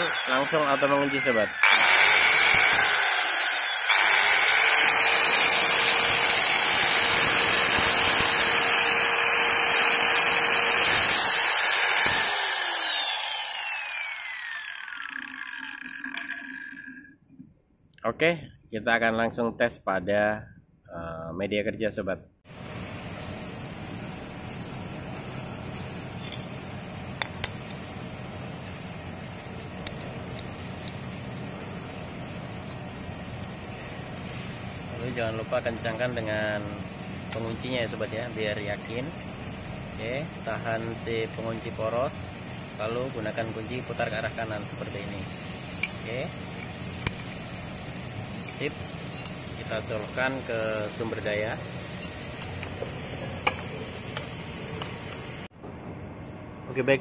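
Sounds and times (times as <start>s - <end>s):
angle grinder whining: 0.0s - 17.3s, 24.1s - 55.5s.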